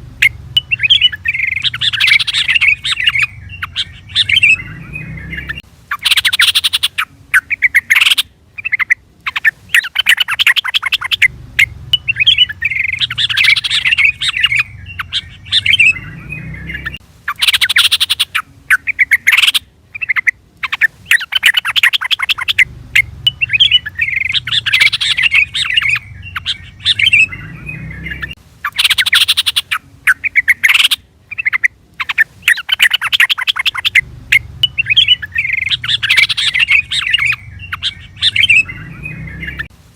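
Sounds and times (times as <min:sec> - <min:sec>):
bulbul chattering calls: 0:00.0 - 0:39.7.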